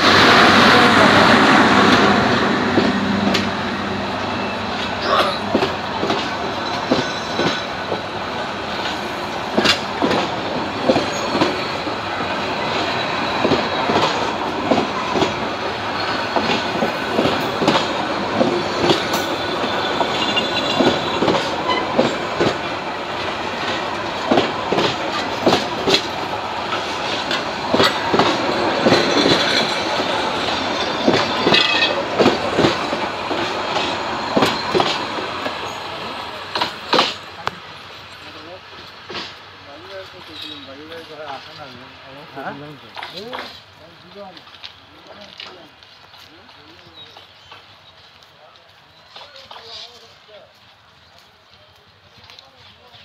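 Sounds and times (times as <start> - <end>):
train wheels clacking on rail joints: 0.0 - 41.7, 42.5 - 53.0
train rumble: 0.0 - 53.0.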